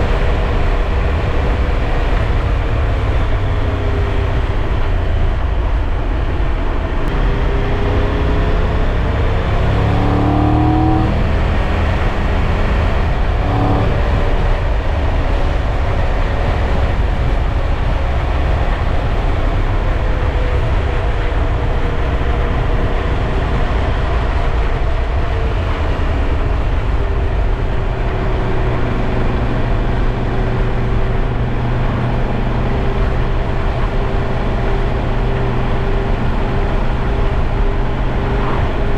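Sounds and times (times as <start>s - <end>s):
wind and road noise: 0.0s - 38.9s
motorcycle engine accelerating: 7.0s - 38.9s.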